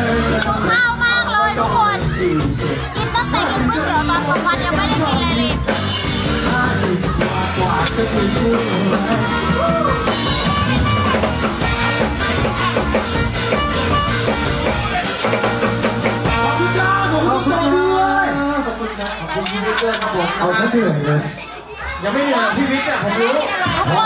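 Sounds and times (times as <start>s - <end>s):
drum kit beat: 0.0s - 20.2s
loud music: 0.0s - 24.0s.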